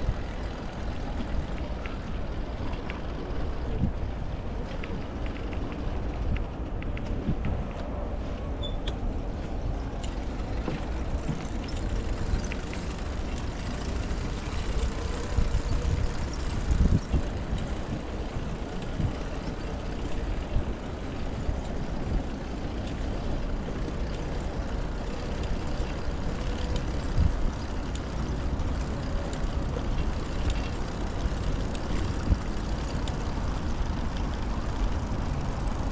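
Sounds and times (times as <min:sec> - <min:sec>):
city road traffic rumble: 0:00.0 - 0:35.9.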